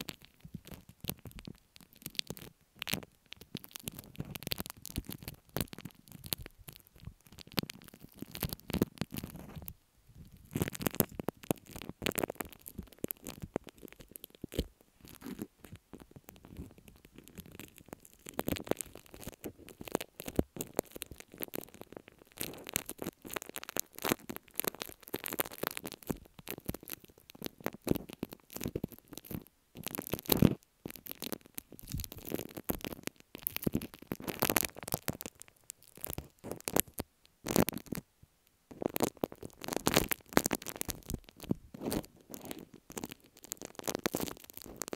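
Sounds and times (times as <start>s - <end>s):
slime squishing crackles: 0.0s - 44.9s.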